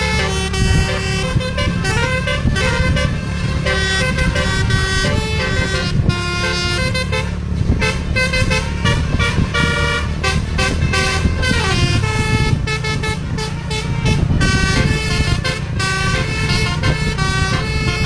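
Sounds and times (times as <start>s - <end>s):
bus engine rumble: 0.0s - 18.0s
musical horn playing a tune: 0.0s - 18.0s.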